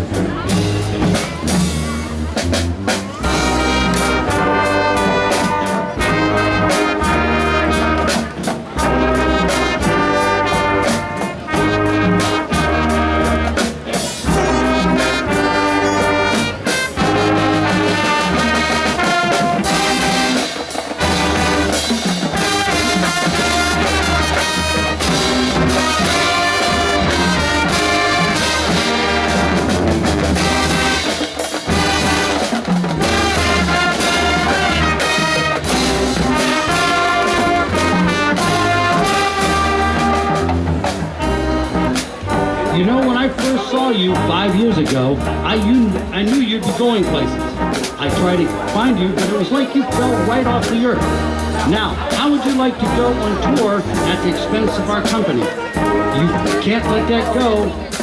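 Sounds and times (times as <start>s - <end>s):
brass melody: 0.0s - 58.0s
drum strikes: 0.0s - 58.0s.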